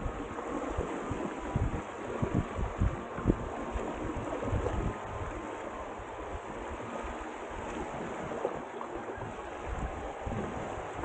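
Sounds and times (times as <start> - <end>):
water rushing along hulls: 0.0 - 11.0
wind buffeting microphone: 0.0 - 11.0.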